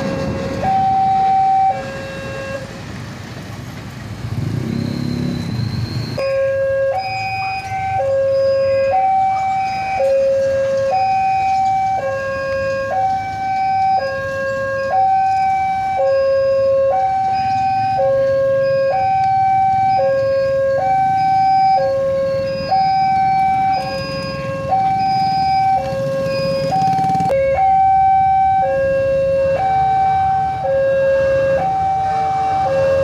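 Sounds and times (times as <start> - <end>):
two-tone level-crossing alarm: 0.0 - 2.7, 4.7 - 33.0
low hum of motorcycle traffic: 0.0 - 33.0.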